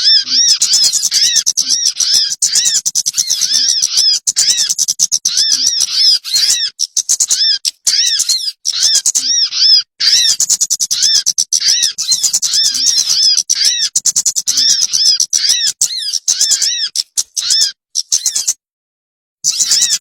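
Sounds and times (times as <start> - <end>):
bird lure chirping: 0.0 - 18.6, 19.5 - 20.0.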